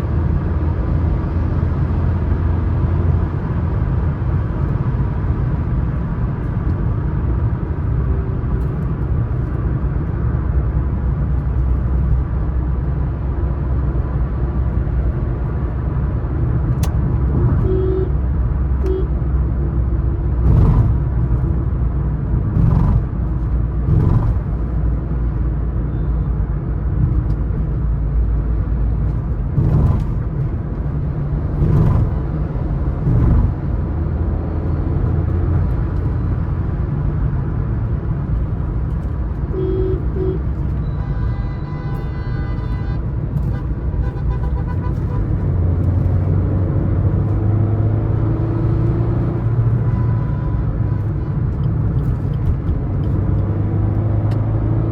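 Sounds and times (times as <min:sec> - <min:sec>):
car engine and road drone: 0:00.0 - 0:54.9.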